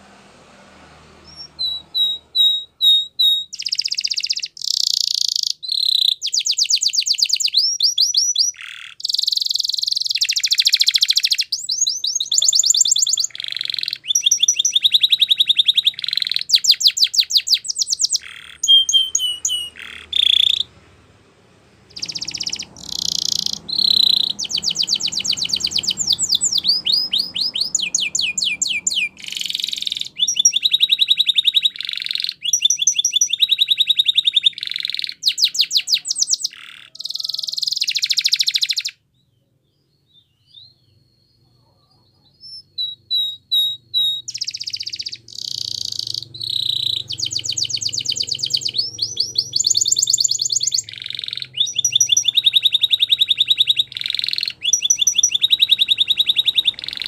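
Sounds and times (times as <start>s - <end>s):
canary singing trills: 1.2s - 21.1s, 21.8s - 57.0s.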